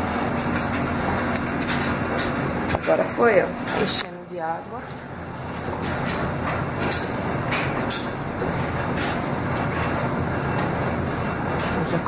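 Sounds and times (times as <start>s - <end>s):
water rushing into washer: 0.0s - 12.0s.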